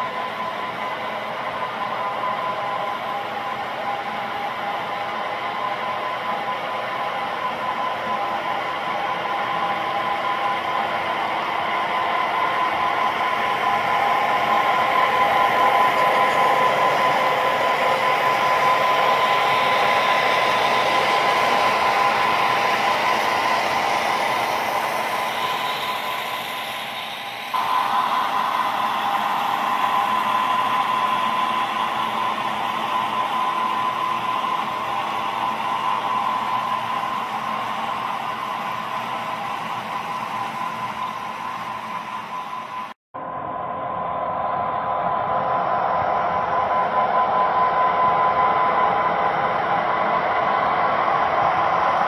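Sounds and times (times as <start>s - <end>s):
model locomotive diesel engine drone: 0.0s - 52.0s
train wheels whirring on track: 0.0s - 52.0s.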